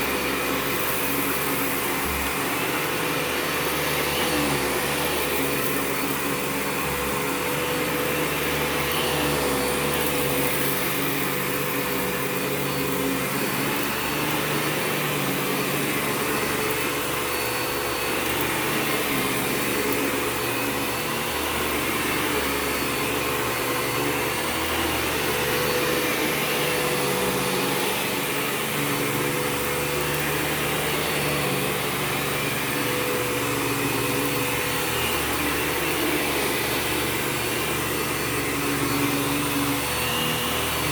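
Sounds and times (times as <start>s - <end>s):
upright vacuum cleaner on carpet: 0.0s - 40.9s.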